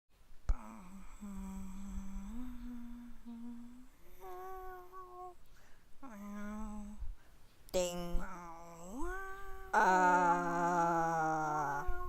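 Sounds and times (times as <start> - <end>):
person humming long notes: 0.5 - 5.4, 6.0 - 12.0.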